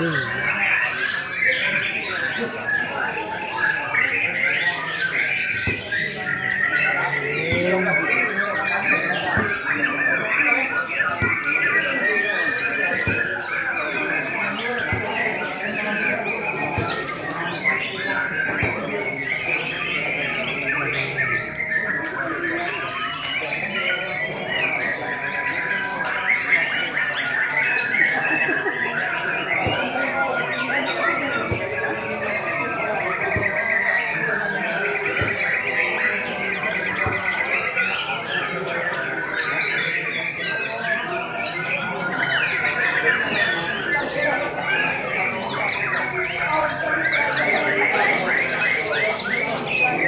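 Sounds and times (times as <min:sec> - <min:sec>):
murmur of people talking: 0:00.0 - 0:50.0
people's voices: 0:00.0 - 0:50.0
songbirds chirping and trilling: 0:00.0 - 0:50.0.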